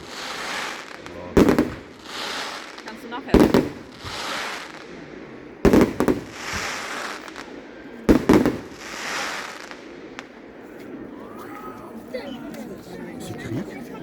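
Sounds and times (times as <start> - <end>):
fireworks bangs: 0.0 - 11.5
fireworks crackling: 0.0 - 12.6.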